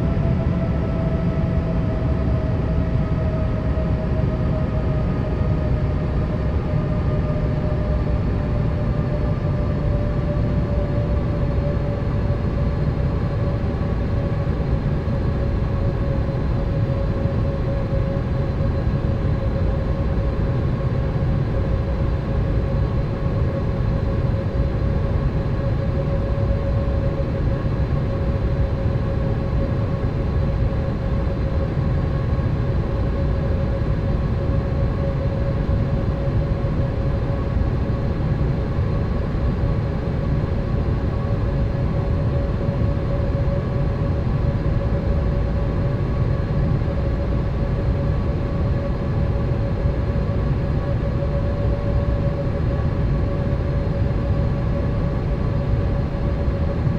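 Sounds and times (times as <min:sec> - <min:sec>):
jet engines droning in cabin: 0:00.0 - 0:56.9.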